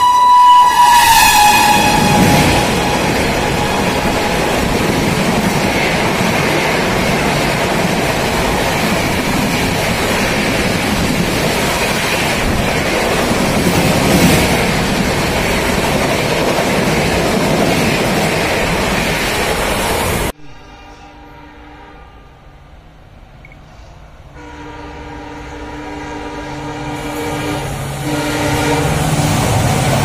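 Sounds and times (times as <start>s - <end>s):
passenger train passing fast: 0.0s - 30.0s.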